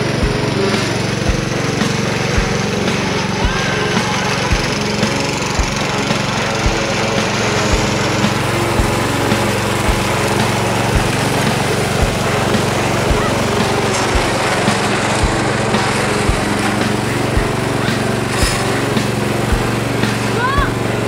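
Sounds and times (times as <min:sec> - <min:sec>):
lawn tractor engine running: 0:00.0 - 0:21.0.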